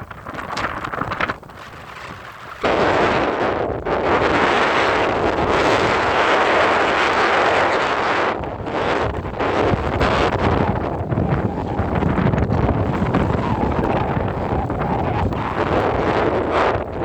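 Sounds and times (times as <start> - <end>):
thunder rumbling: 0.0 - 17.0
wind buffeting microphone: 0.0 - 17.0.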